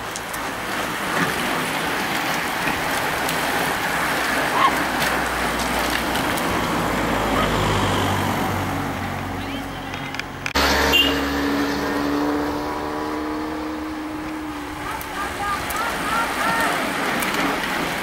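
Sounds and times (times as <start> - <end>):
whir of bicycle tyres: 0.0 - 18.0.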